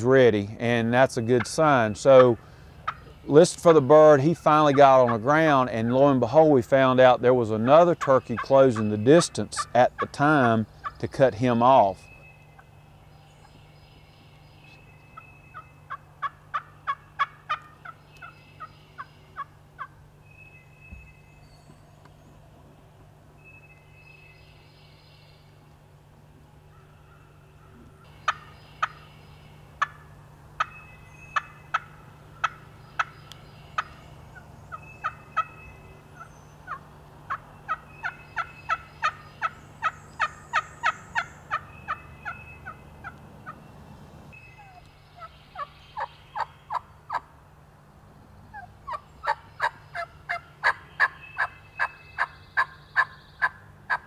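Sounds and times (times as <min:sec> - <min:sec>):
turkey calling: 0:01.0 - 0:12.8, 0:14.6 - 0:21.2, 0:26.6 - 0:47.3, 0:48.5 - 0:54.0.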